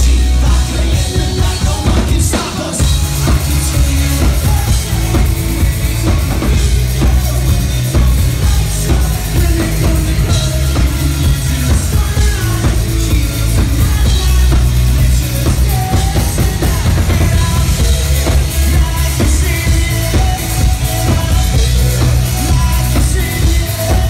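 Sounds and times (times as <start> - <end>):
loud live rock band: 0.0 - 24.0.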